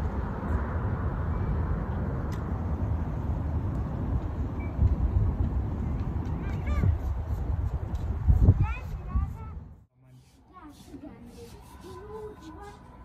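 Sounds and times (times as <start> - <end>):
distant traffic: 0.0 - 13.0
wind: 0.0 - 13.0.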